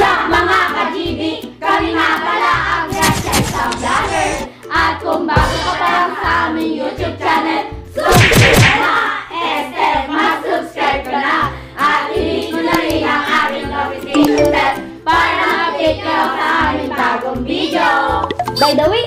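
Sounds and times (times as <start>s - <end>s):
young voices singing together: 0.0s - 2.9s, 4.7s - 8.1s, 8.8s - 18.2s.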